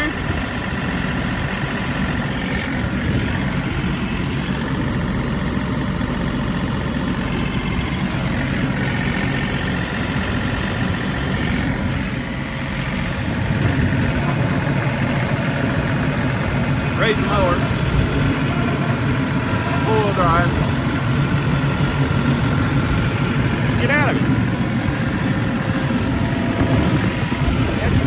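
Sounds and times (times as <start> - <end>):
diesel tractor engine droning: 0.0 - 28.0.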